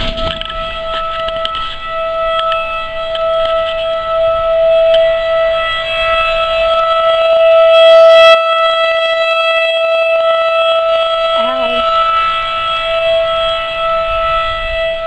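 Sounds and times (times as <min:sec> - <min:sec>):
tornado siren: 0:00.0 - 0:15.0.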